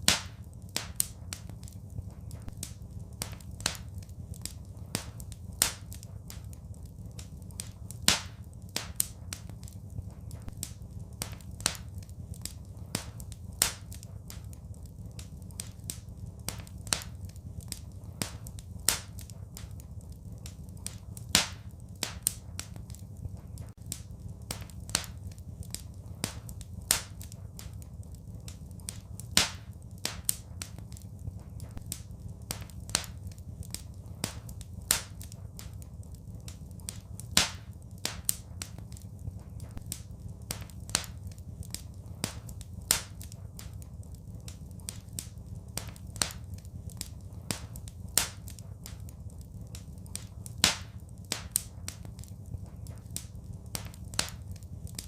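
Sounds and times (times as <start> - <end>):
fire crackling: 0.0 - 55.0
low rumble of flames: 0.0 - 55.0.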